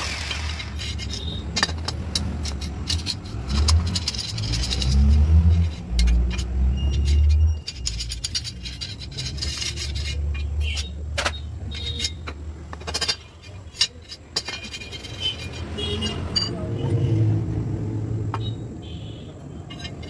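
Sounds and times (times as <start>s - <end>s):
steel rods clinking and scraping: 0.0s - 17.2s, 19.3s - 20.0s.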